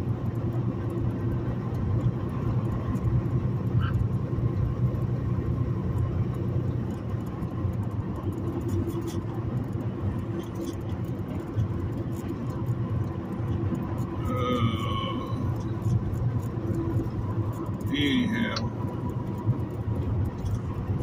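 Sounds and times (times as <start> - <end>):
truck engine and tyres droning: 0.0 - 21.0.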